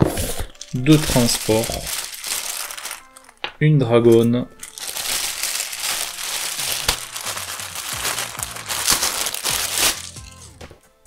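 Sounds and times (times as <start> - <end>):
plastic bag crinkling: 0.3 - 3.4, 4.1 - 10.5.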